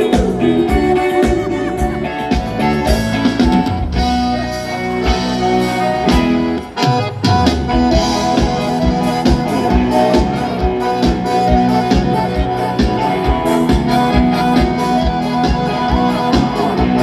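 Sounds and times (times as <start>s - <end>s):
live band guitar: 0.0s - 17.0s
steady drum beat: 0.0s - 17.0s.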